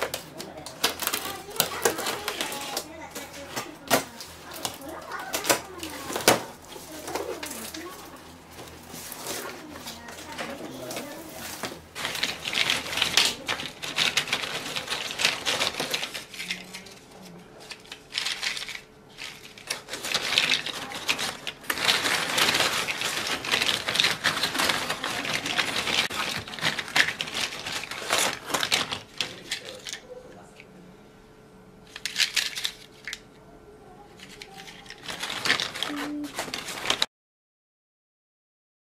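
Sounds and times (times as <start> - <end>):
cinnamon sticks clattering: 0.0 - 30.4, 31.9 - 33.2, 34.1 - 37.1.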